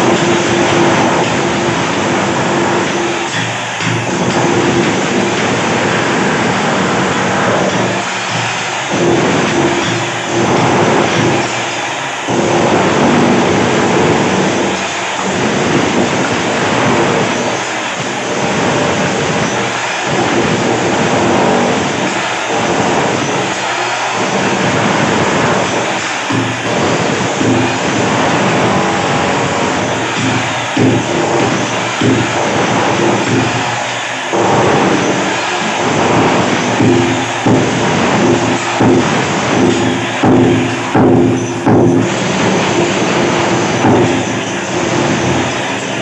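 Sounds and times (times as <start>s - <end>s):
demolition hammer chipping tiles: 0.0s - 46.0s.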